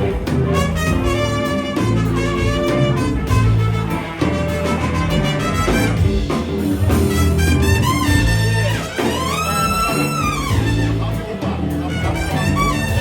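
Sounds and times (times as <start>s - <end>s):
jazz music with brass lead: 0.0s - 13.0s.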